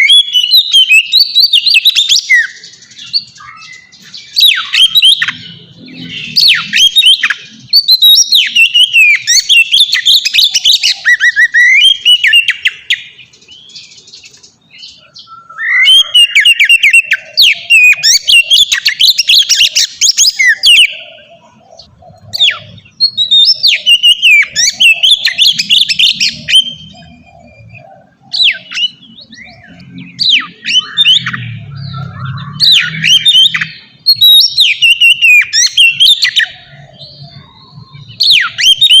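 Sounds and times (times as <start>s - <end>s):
bird singing varied whistles: 0.0s - 21.3s, 22.1s - 39.0s.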